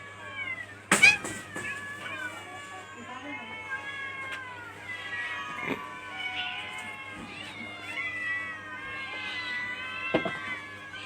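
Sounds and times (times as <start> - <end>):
cats meowing: 0.2 - 11.0.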